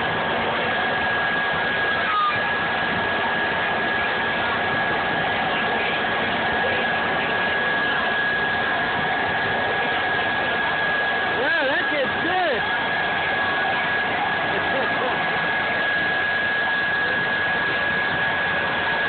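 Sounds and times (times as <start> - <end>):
air blower rushing and whining: 0.0 - 19.0.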